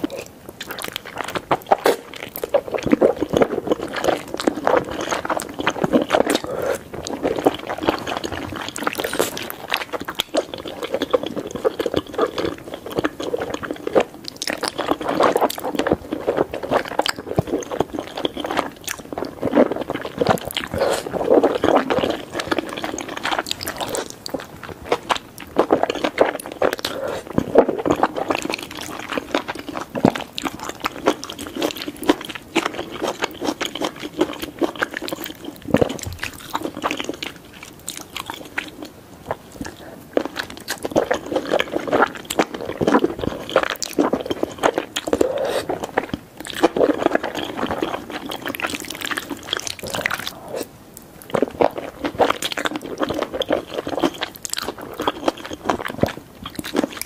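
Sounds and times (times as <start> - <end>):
slurping and chewing noodles: 0.0 - 57.0.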